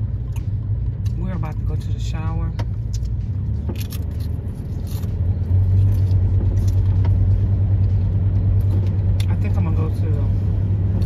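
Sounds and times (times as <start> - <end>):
van engine and road hum: 0.0 - 11.0.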